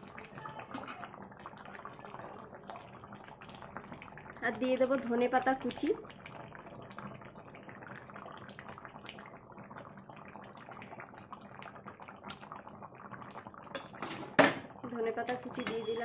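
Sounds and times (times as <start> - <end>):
curry bubbling in a wok: 0.0 - 15.6.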